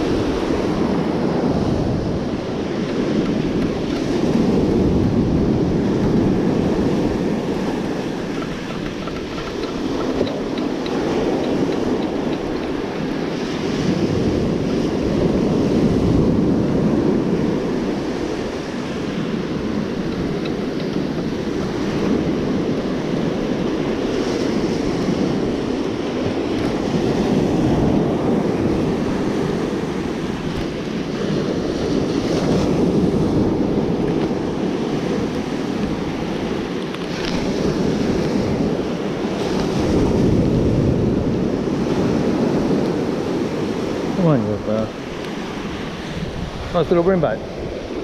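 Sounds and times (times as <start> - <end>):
ocean surf breaking: 0.0 - 48.0
wind rumbling on microphone: 0.0 - 48.0.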